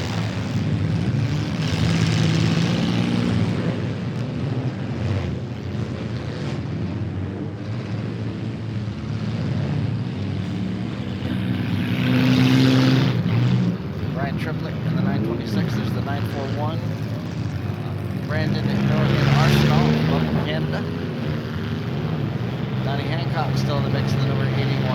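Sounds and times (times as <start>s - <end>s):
car engines revving: 0.0s - 24.9s.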